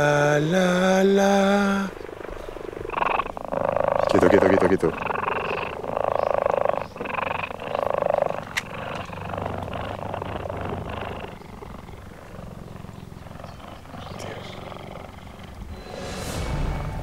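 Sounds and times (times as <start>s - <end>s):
cheetah purring: 0.0s - 16.2s.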